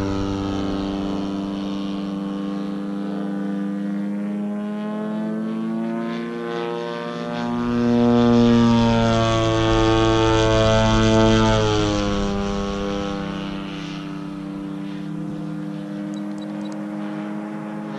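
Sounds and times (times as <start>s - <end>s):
model plane engine running: 0.0s - 17.9s
propeller drone: 0.0s - 17.9s.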